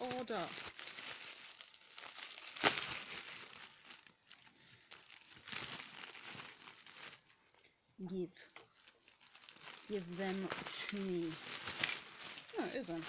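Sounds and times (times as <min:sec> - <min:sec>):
packaging crinkling and rustling: 0:00.0 - 0:07.8, 0:08.4 - 0:13.0.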